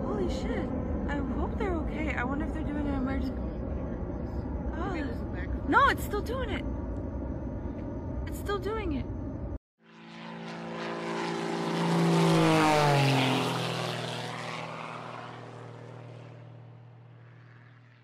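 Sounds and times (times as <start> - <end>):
airplane flying past: 0.0 - 18.0.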